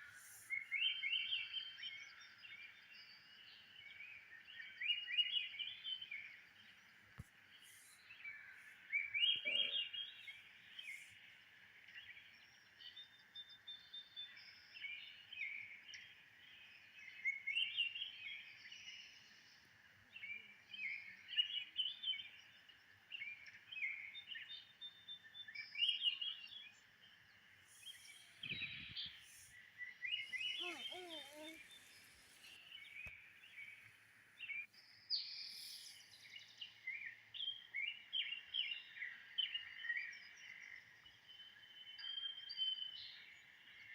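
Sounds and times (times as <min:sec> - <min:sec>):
wild birds chirping and trilling: 0:00.0 - 0:43.9.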